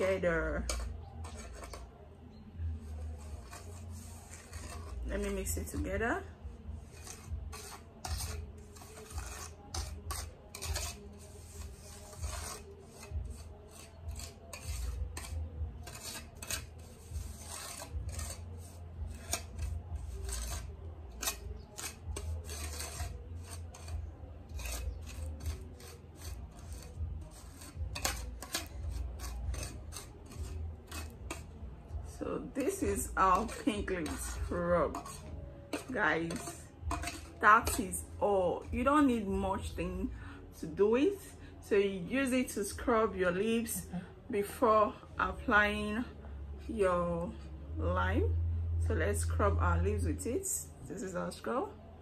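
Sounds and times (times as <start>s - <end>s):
metal spoon scraping gritty scrub: 0.0s - 46.0s.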